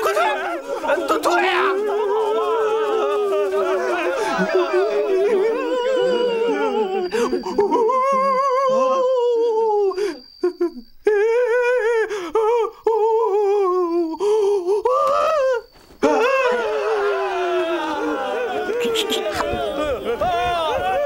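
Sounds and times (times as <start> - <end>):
eerie high voice wailing: 0.0 - 10.0, 11.1 - 21.0.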